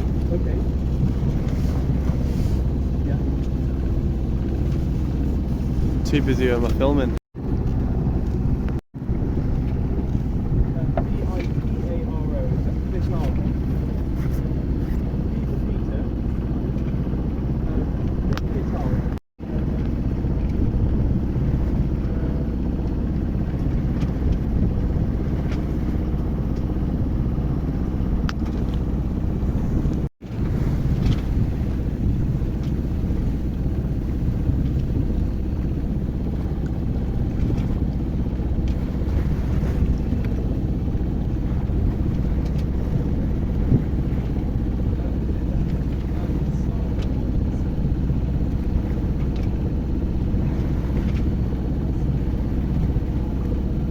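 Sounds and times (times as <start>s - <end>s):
boat low rumble: 0.0s - 53.9s.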